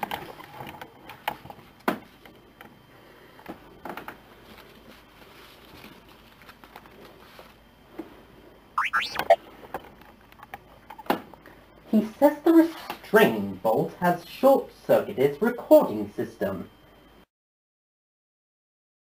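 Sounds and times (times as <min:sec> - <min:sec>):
low background hum: 0:00.0 - 0:17.3.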